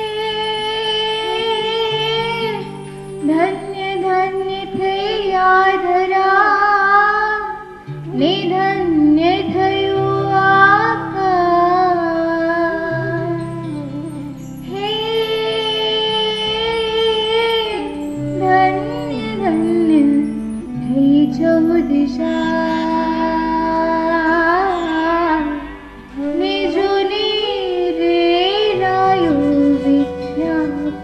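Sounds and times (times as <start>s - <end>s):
high voice singing: 0.0s - 31.0s
low musical accompaniment: 0.0s - 31.0s.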